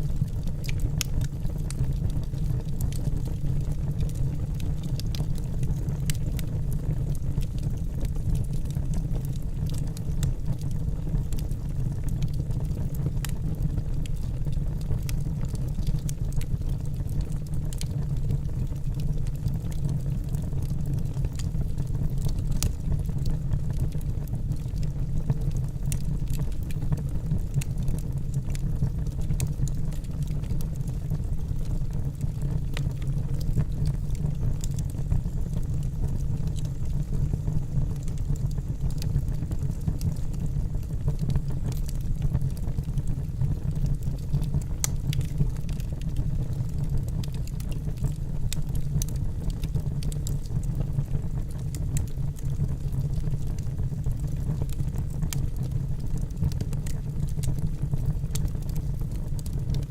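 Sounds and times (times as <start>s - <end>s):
logs crackling and popping: 0.0s - 59.9s.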